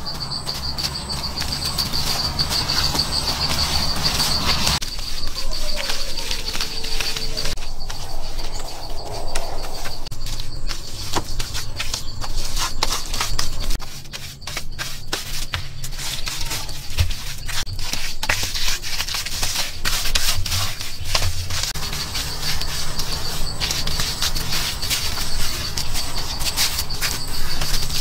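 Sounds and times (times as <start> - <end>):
smearing rubbing strokes: 0.0 - 28.0.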